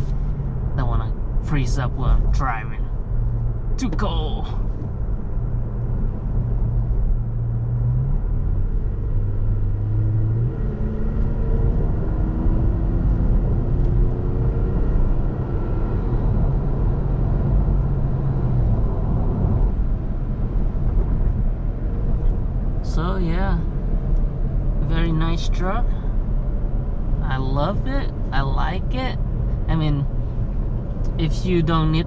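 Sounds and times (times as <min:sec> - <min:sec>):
road rumble: 0:00.0 - 0:32.0.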